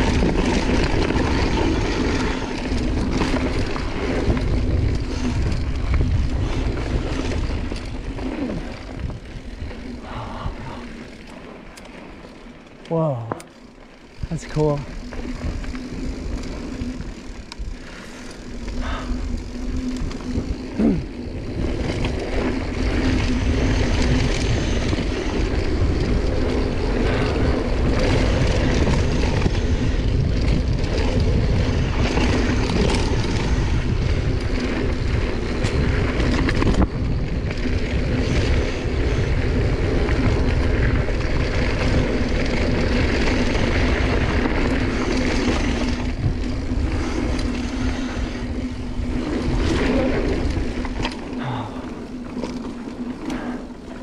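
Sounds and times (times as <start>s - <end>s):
wind buffeting microphone: 0.0s - 11.1s, 15.0s - 54.0s
bike tyres rolling on dirt: 0.0s - 54.0s.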